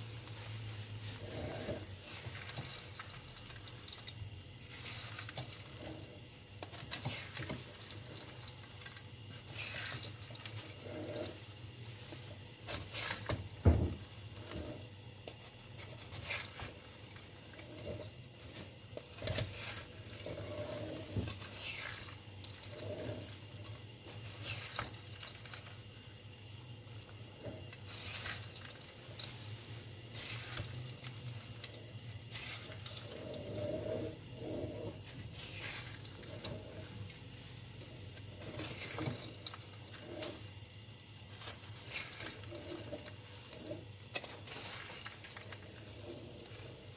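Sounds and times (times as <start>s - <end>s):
peanuts rattling and scraping in pan: 0.0s - 46.9s.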